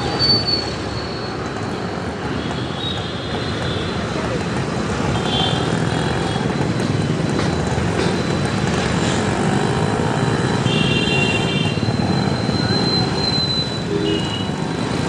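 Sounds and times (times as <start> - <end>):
motorbike riding noise: 0.0 - 15.0
other scooters and motorcycles: 0.0 - 15.0.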